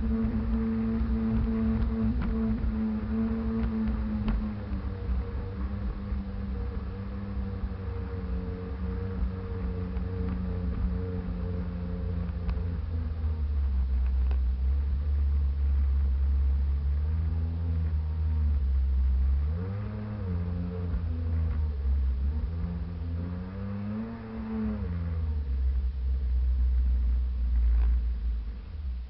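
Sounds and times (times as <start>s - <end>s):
jet ski engine revving: 0.0s - 25.8s.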